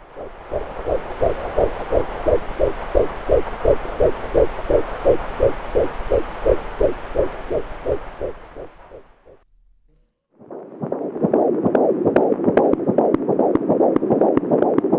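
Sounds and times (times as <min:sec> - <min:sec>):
fetal heartbeat whooshing pulses: 0:00.0 - 0:09.4, 0:10.4 - 0:14.9.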